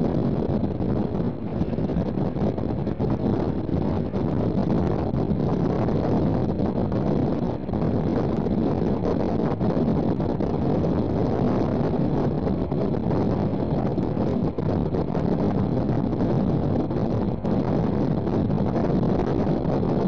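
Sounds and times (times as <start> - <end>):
train running noise: 0.0 - 20.0
wind buffeting microphone: 0.0 - 20.0.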